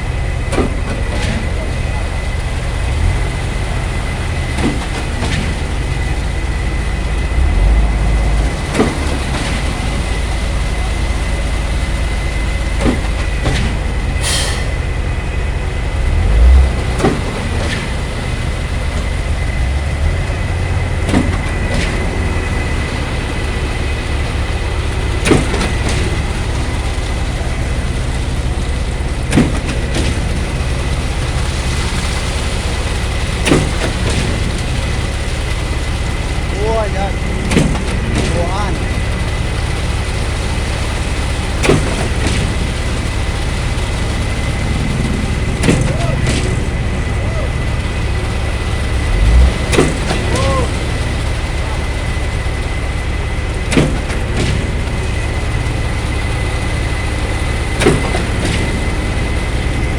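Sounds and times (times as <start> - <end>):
concrete pump clunking: 0.0 - 59.9
diesel engine running under load: 0.0 - 59.9.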